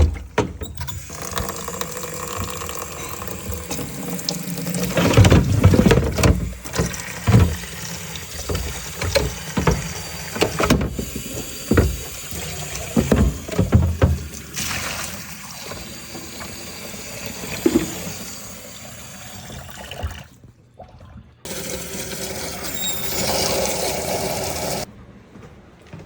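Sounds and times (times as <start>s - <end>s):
water running and sloshing: 0.0s - 24.9s.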